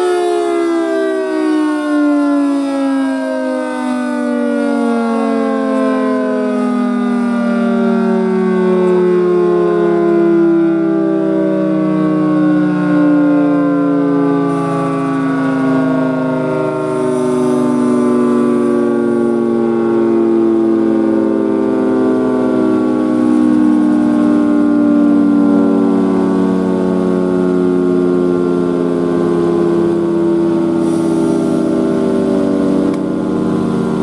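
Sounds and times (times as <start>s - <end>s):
tornado siren winding down: 0.0s - 34.0s.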